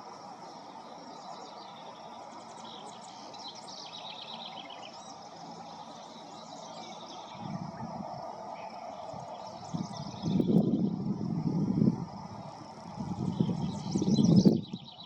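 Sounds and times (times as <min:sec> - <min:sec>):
songbird chirping trills: 0:00.0 - 0:11.1, 0:12.1 - 0:15.0
wind: 0:00.0 - 0:15.0.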